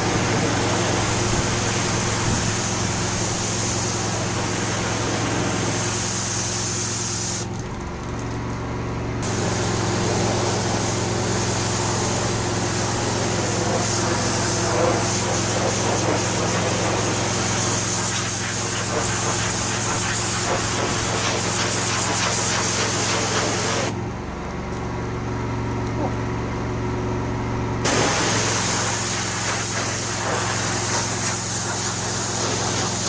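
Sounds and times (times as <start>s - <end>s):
pressure washer spray hissing: 0.0s - 7.5s, 9.2s - 24.0s, 27.8s - 33.0s
engine and pump humming: 0.0s - 33.0s.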